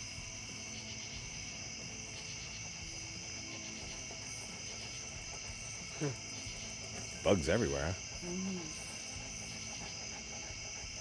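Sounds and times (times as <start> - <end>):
crickets and insects trilling: 0.0 - 11.0.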